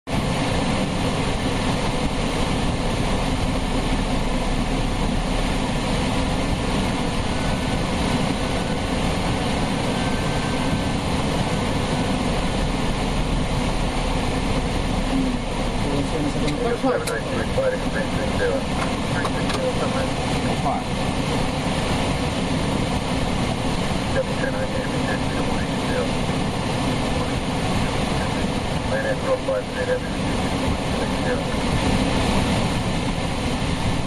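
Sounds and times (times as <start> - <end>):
air rushing over cockpit: 0.1 - 34.0
jet engines running: 0.1 - 34.0.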